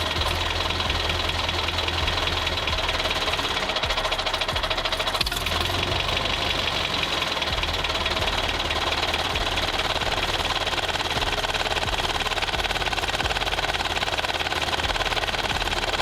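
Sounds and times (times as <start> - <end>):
small motor gear rattle: 0.0 - 16.0.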